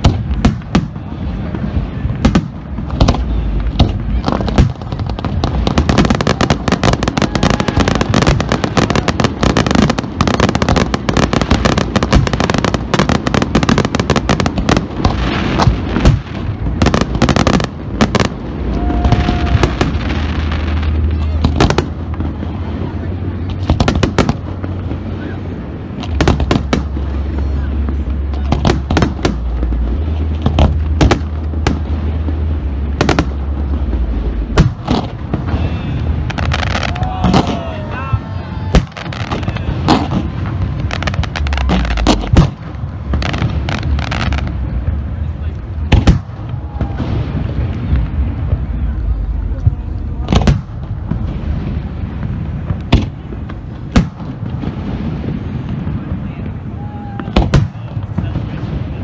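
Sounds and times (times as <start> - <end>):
fireworks bursting with bangs: 0.0 - 59.0
low rumble: 0.0 - 59.0.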